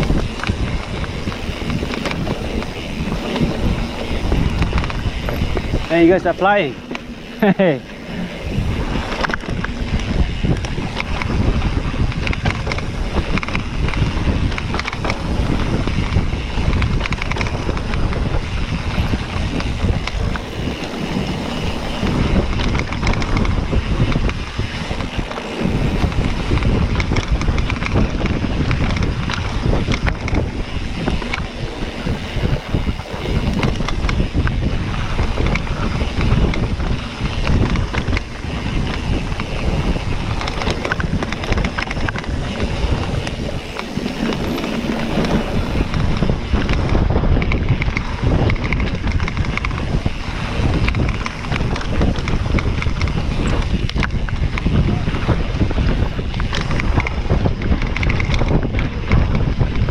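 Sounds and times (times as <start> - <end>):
bike tyre noise: 0.0 - 59.9
small knocks from rough trail: 0.0 - 59.9
wind rushing over microphone: 0.0 - 59.9.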